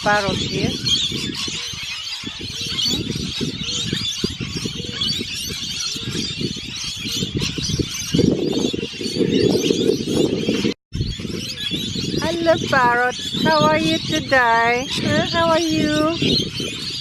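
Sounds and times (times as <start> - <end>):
parrots chirping and chattering: 0.0 - 17.0
wind rumble on microphone: 0.0 - 17.0.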